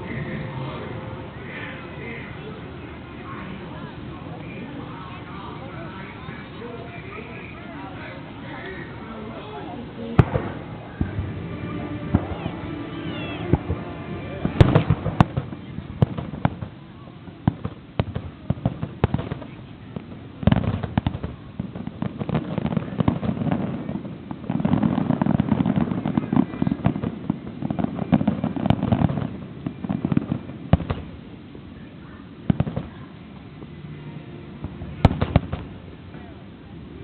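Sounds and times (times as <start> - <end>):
fireworks bangs and crackling: 0.0 - 33.8, 34.4 - 37.0.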